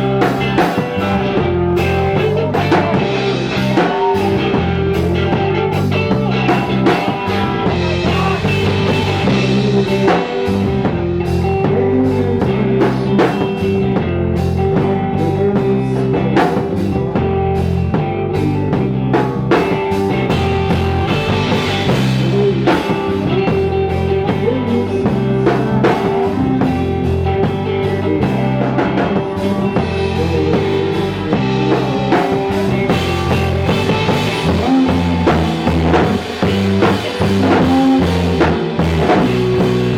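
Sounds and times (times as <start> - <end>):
drum kit: 0.0 - 39.9
electric guitars: 0.0 - 39.9
pulsing bass guitar: 0.0 - 39.9.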